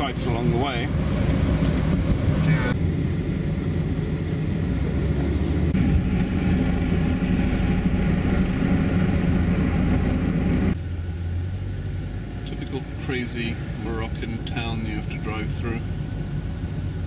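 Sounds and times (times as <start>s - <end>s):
car engine hum: 0.0s - 17.0s
tyre and road rumble: 0.0s - 17.0s.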